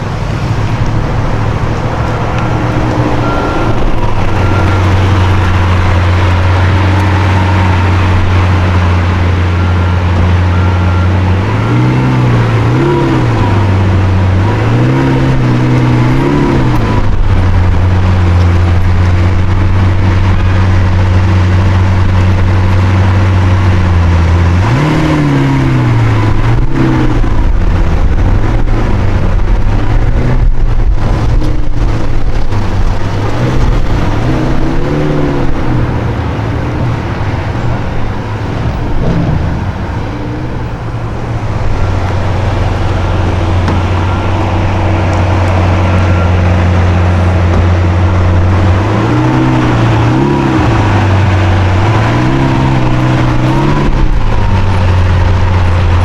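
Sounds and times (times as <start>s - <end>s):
sports car engine revving: 0.0s - 56.0s.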